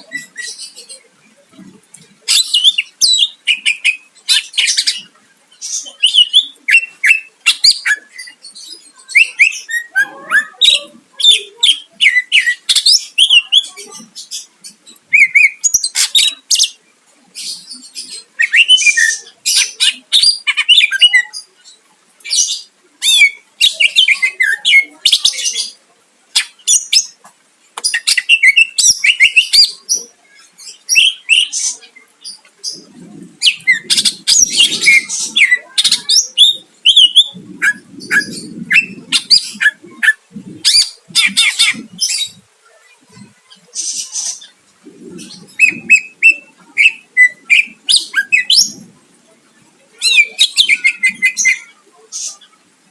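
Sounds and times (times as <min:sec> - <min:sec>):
bird singing chirps and trills: 0:00.0 - 0:25.8, 0:27.8 - 0:49.0, 0:49.8 - 0:52.7.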